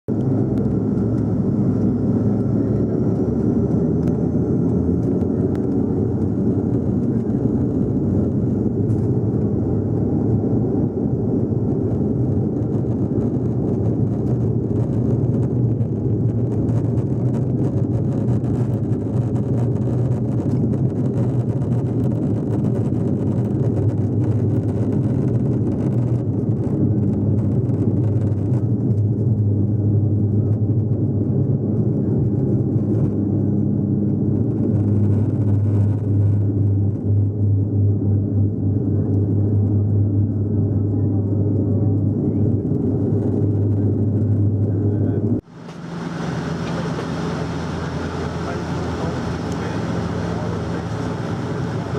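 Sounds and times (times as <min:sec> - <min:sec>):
turboprop engines droning: 0:00.1 - 0:51.9
wheels rumbling on runway: 0:00.1 - 0:51.9.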